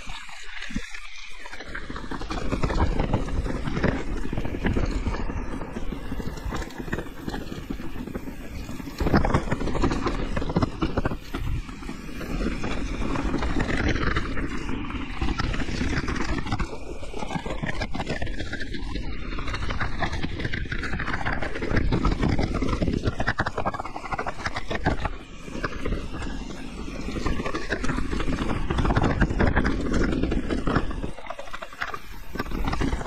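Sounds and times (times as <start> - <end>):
bike rattling over bumps: 1.6 - 33.0.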